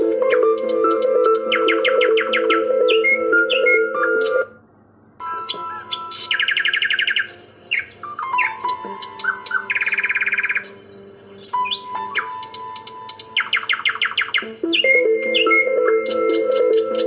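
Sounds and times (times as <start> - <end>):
bird trills: 0.0 - 4.5, 5.2 - 17.0
birds chirping: 0.0 - 4.6, 5.2 - 17.0
soft background music: 0.0 - 4.6, 5.2 - 17.0.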